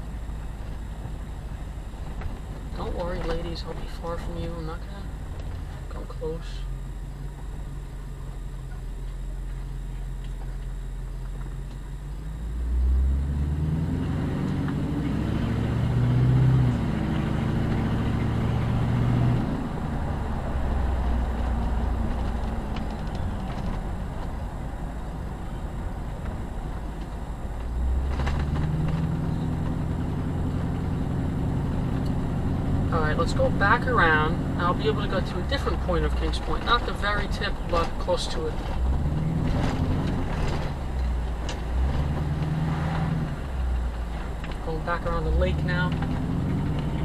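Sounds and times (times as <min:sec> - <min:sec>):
car engine: 0:00.0 - 0:47.0
road noise: 0:00.0 - 0:47.0.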